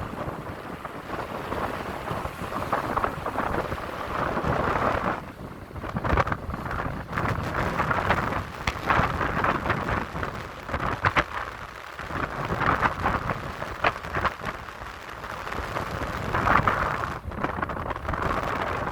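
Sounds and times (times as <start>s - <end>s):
gusty wind buffeting microphone: 0.0s - 18.9s.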